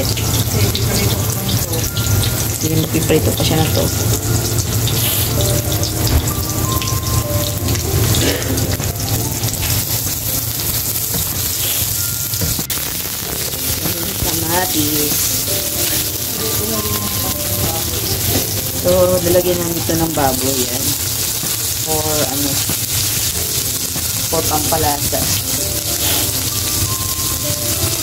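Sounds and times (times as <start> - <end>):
garlic and onions sizzling in oil: 0.0 - 28.0.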